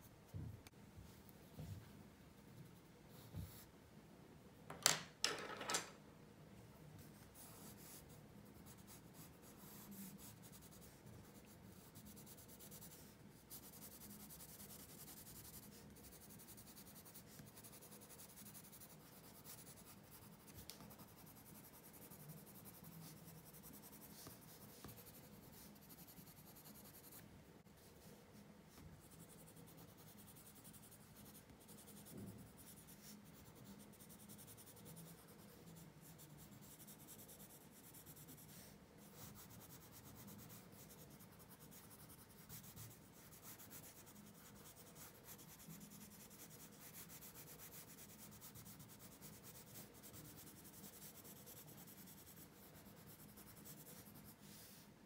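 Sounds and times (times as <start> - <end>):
pencil scratching on paper: 7.1 - 27.2, 28.7 - 54.8.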